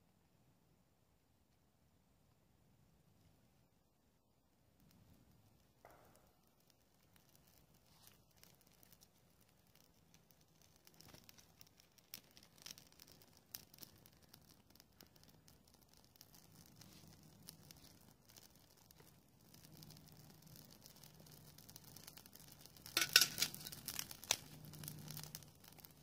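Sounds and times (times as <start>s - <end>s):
faint clicks: 4.8s - 26.0s
rustling: 4.8s - 26.0s.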